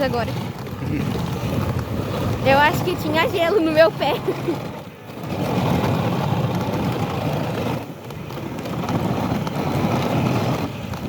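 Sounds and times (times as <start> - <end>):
sled runners rushing over snow: 0.0 - 11.0
wind on microphone: 0.0 - 11.0.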